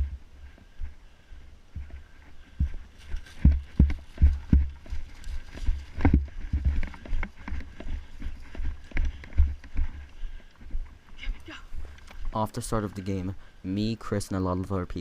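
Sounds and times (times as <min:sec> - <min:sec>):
running footsteps: 0:00.0 - 0:13.6.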